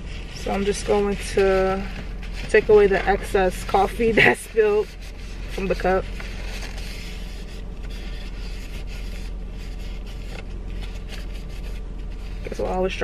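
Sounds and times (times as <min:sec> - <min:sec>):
paper napkin rubbing cup lid: 0:00.0 - 0:12.6
steady low hum: 0:00.0 - 0:13.0.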